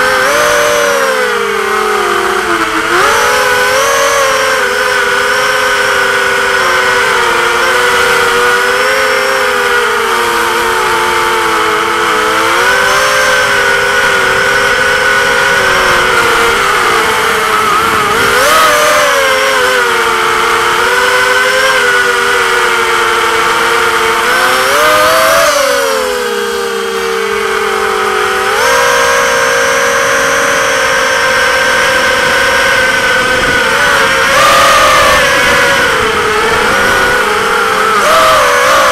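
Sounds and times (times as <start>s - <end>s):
quadcopter motors whining: 0.0s - 38.9s.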